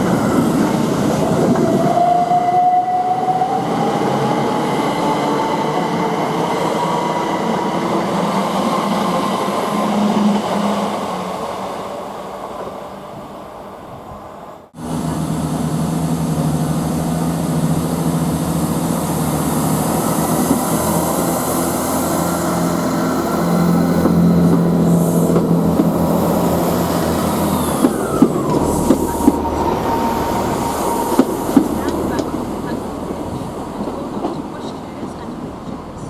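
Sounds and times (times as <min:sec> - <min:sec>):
train rumbling: 0:00.0 - 0:36.0.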